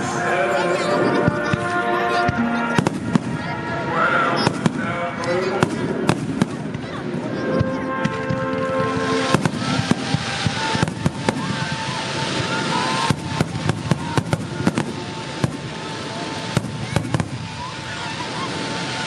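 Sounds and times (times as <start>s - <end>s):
continuous crackling hiss: 0.0s - 19.0s
fireworks bangs and crackles: 0.0s - 19.0s.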